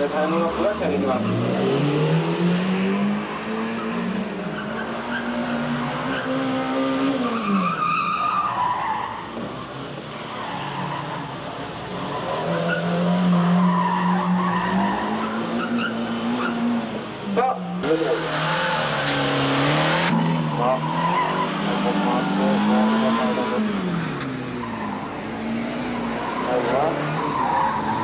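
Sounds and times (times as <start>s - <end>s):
car engine revving: 0.0s - 28.0s
tires squealing: 0.0s - 28.0s.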